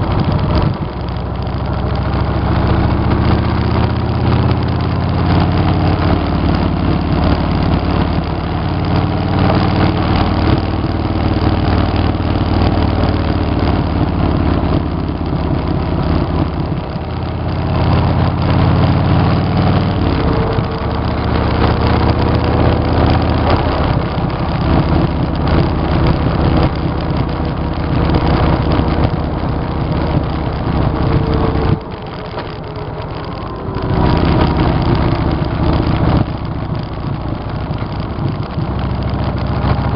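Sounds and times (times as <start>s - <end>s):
wind rush: 0.0s - 7.8s, 13.8s - 39.9s
motorcycle engine running: 0.0s - 39.9s.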